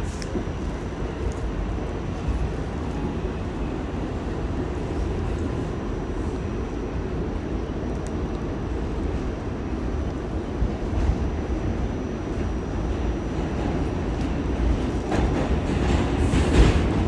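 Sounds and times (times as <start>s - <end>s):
subway train wheels rumbling on rail: 0.0s - 17.0s.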